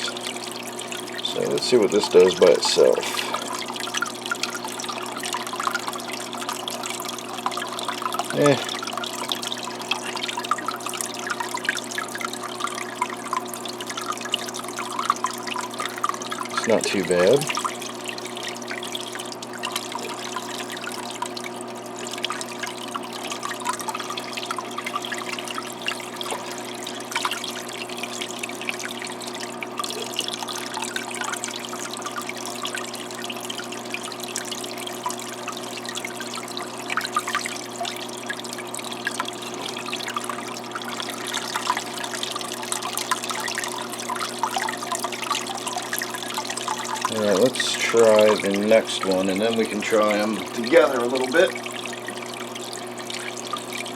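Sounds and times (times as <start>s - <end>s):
pump hum: 0.0s - 53.9s
water trickling and splashing: 0.0s - 53.9s.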